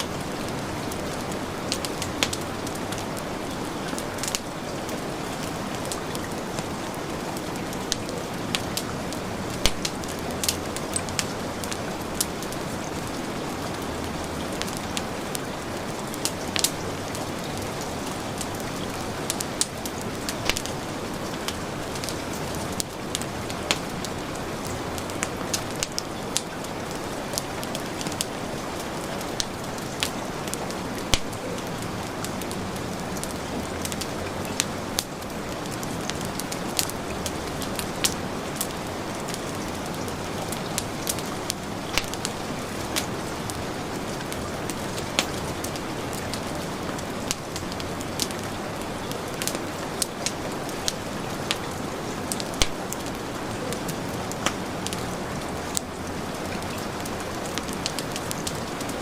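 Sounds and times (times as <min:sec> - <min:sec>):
heavy rain: 0:00.0 - 0:59.0
wood fire crackling and popping: 0:00.0 - 0:59.0.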